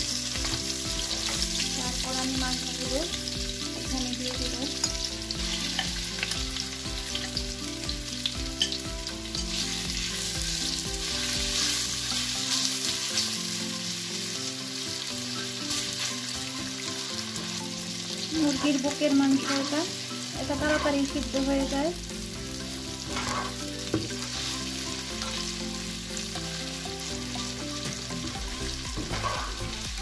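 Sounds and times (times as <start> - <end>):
chicken sizzling in oil: 0.0 - 30.0.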